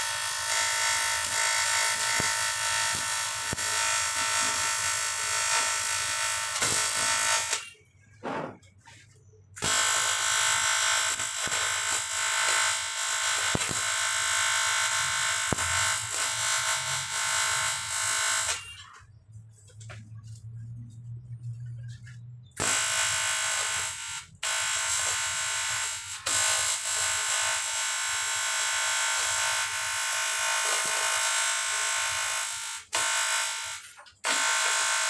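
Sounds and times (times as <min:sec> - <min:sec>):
welding arc buzzing: 0:00.0 - 0:07.8, 0:09.6 - 0:19.1, 0:21.8 - 0:35.0.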